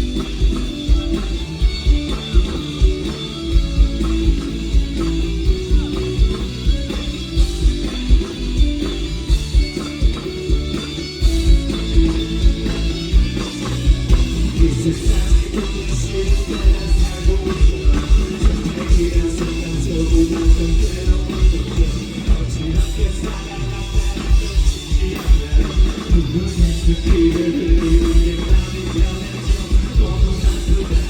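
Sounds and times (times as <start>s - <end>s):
drum kit beat: 0.0s - 31.0s
electric guitar: 0.0s - 31.0s.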